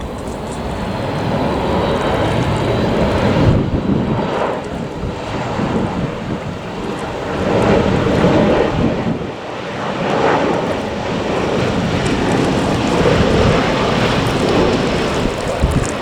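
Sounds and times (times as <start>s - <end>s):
distant jet engine rumble: 0.0s - 16.0s
wind on microphone: 0.0s - 16.0s.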